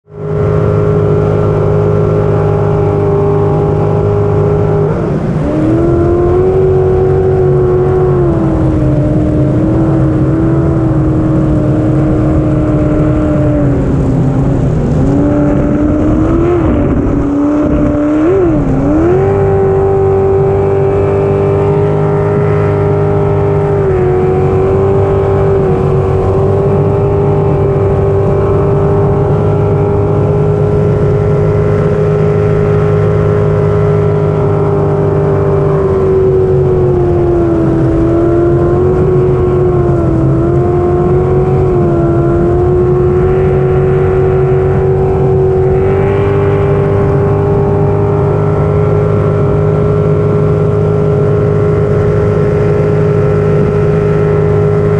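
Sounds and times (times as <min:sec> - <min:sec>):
jet boat engine running: 0:00.0 - 0:54.9.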